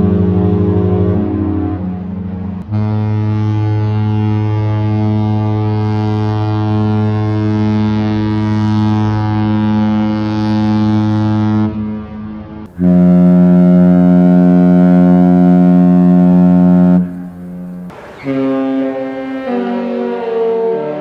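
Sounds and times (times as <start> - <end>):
ship horn long low blast: 0.0 - 21.0
horn note: 2.6 - 21.0.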